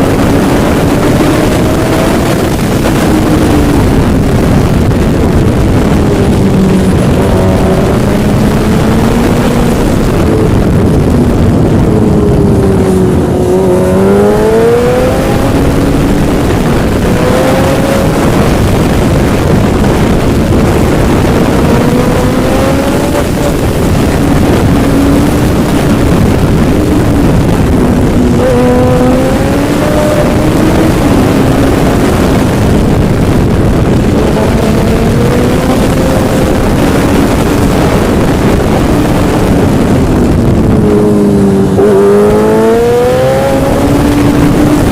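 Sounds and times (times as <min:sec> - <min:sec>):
engine running under way: 0:00.0 - 0:44.9
wind and travel noise: 0:00.0 - 0:44.9.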